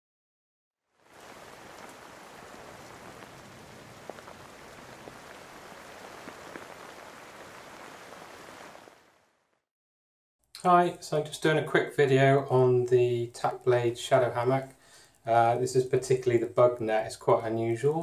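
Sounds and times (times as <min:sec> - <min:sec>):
rain-like hiss: 0:00.9 - 0:09.5, 0:10.7 - 0:18.0.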